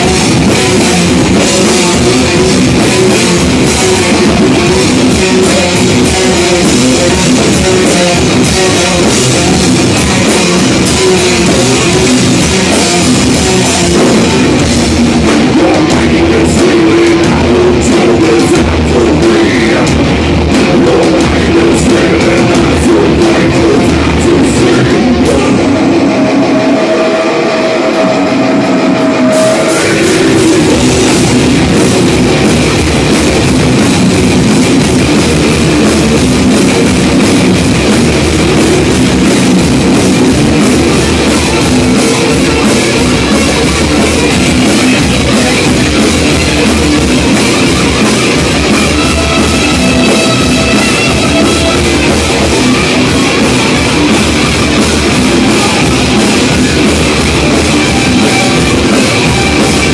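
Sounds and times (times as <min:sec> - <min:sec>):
distorted electric guitar: 0:00.0 - 0:59.9
heavy metal band playing: 0:00.0 - 0:59.9.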